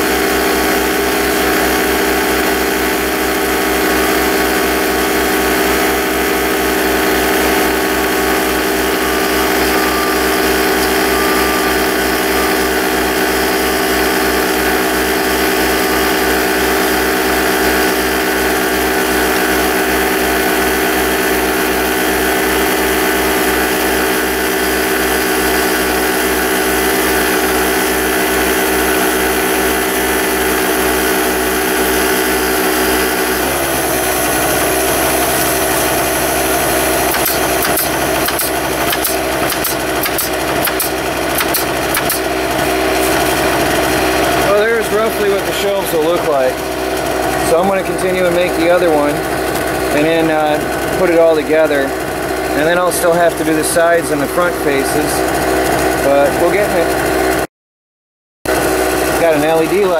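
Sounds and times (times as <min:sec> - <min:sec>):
air compressor droning: 0:00.0 - 0:57.5, 0:58.5 - 0:59.9.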